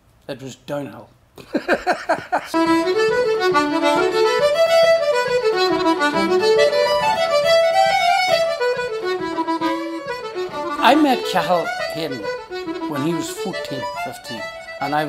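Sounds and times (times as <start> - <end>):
accordion playing: 1.6 - 15.0
fiddle playing: 2.0 - 15.0.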